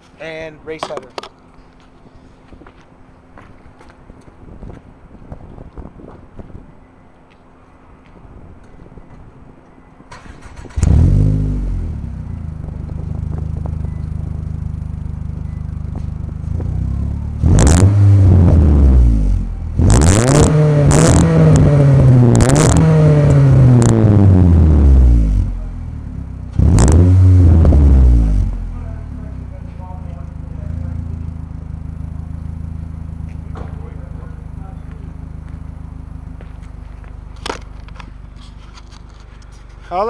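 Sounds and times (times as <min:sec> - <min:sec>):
car engine idling and revving: 0:01.2 - 0:40.0.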